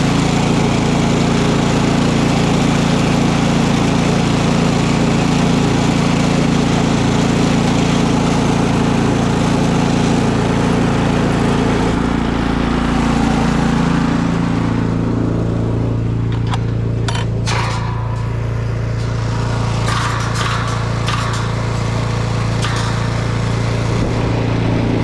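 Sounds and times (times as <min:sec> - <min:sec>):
snowblower engine running: 0:00.0 - 0:25.0.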